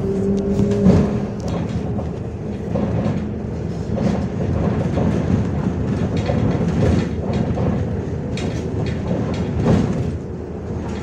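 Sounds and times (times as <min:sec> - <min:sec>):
bus body rattling and knocking: 0:00.0 - 0:11.0
bus engine drone: 0:00.0 - 0:11.0.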